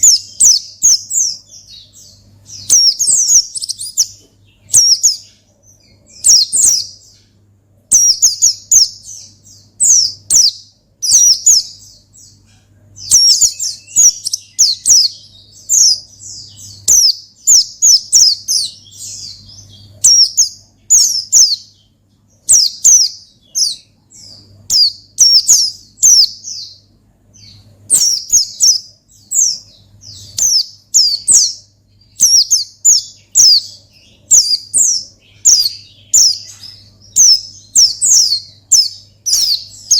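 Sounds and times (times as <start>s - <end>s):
bird singing rapid chirps: 0.0s - 39.9s
faint low hum: 0.0s - 39.9s.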